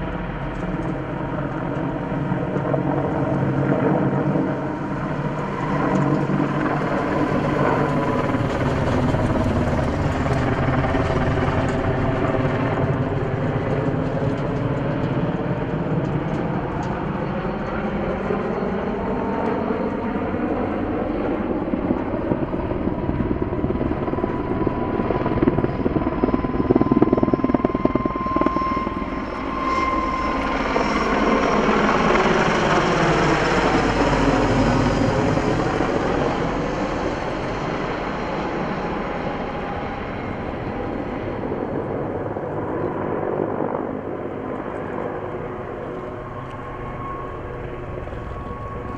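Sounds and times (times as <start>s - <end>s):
helicopter rotor drone: 0.0s - 48.9s.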